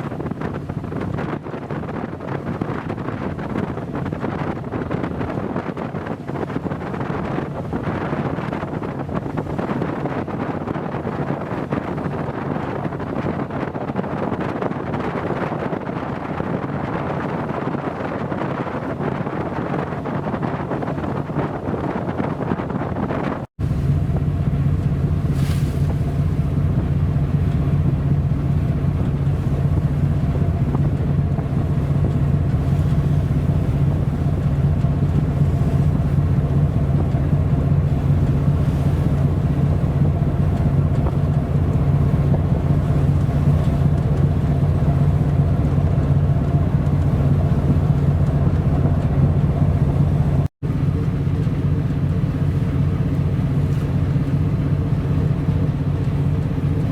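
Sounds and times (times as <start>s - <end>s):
ship engine droning: 0.0s - 56.9s.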